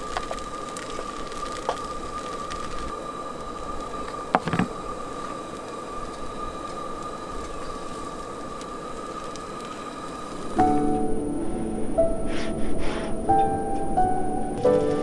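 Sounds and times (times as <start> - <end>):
propane stove burner hissing: 0.0 - 15.0.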